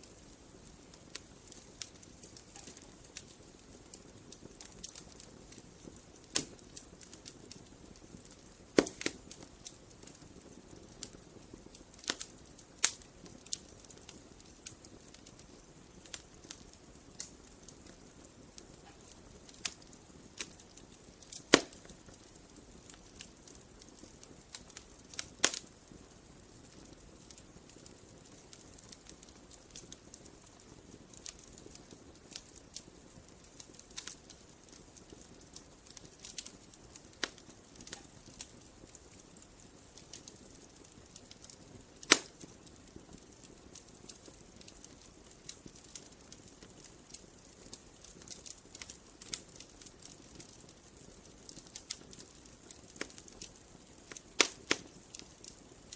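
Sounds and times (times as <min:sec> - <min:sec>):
soft hiss: 0:00.0 - 0:55.9
wood fire crackling: 0:00.0 - 0:55.9.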